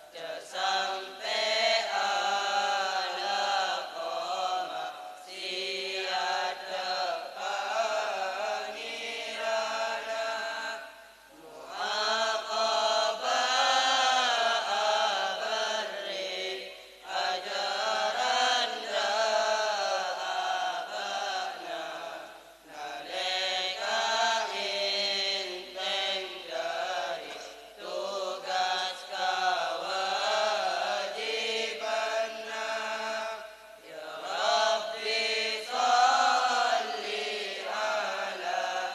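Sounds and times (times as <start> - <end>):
boys chanting verse together: 0.1 - 38.9.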